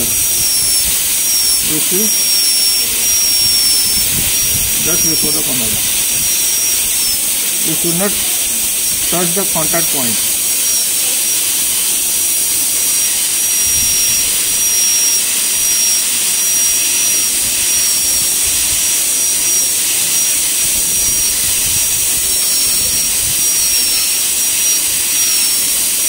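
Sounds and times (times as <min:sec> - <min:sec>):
dental drill whine: 0:00.0 - 0:26.0
water spray hiss: 0:00.0 - 0:26.0.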